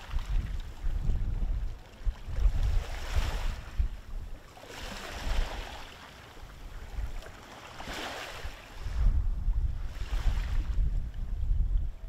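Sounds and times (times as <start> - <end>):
wind buffeting microphone: 0.0 - 5.9, 7.8 - 12.0.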